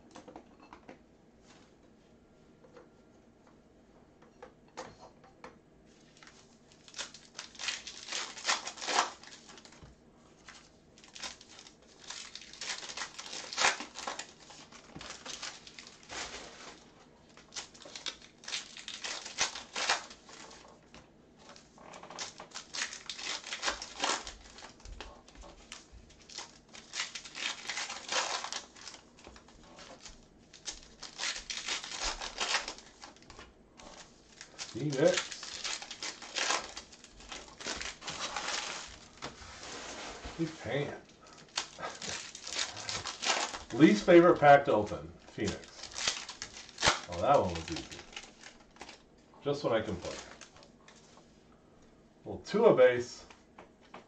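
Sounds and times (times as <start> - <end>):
foil wrappers crinkling and tearing: 6.0 - 51.1.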